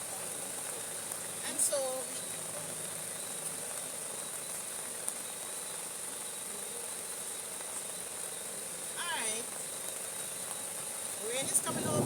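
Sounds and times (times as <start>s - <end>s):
high-pitched insect chorus: 0.0s - 12.0s
rain hiss: 0.0s - 12.0s.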